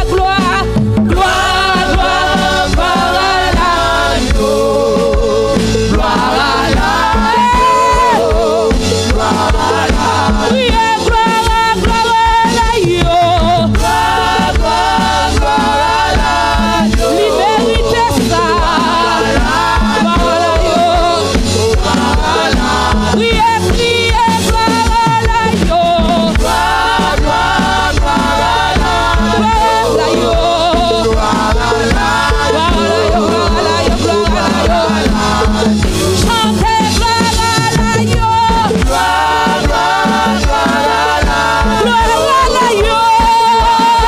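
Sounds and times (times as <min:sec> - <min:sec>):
backing singers: 0:00.0 - 0:44.0
instrumental accompaniment with bass: 0:00.0 - 0:44.0
woman singing gospel: 0:00.0 - 0:44.0.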